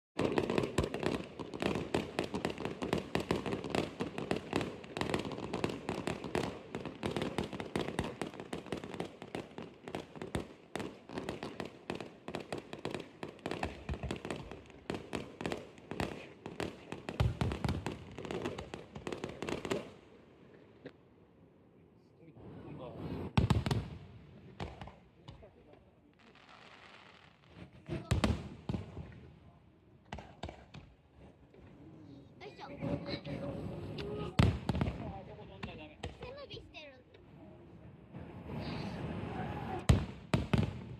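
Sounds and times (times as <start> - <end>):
fireworks crackling and popping: 0.2 - 21.0, 22.4 - 40.9.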